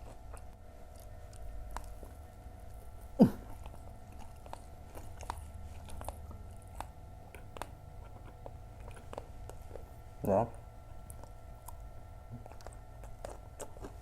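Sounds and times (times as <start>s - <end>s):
chewing crunchy snacks: 0.0s - 14.0s.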